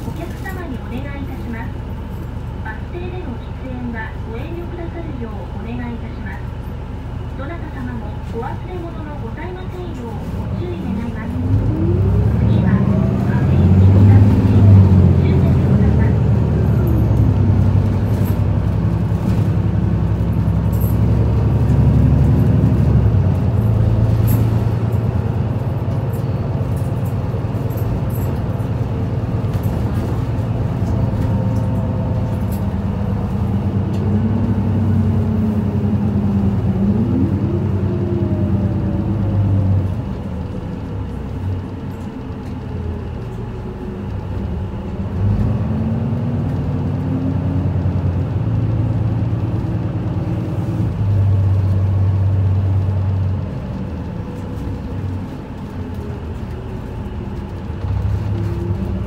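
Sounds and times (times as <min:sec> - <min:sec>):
bus diesel engine humming: 0:00.0 - 0:59.0.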